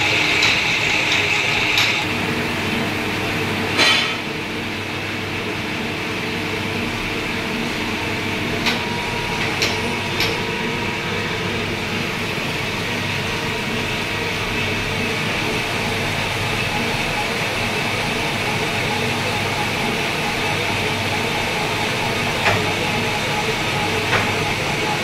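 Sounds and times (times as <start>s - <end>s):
lathe humming: 0.0s - 3.6s, 6.1s - 25.0s.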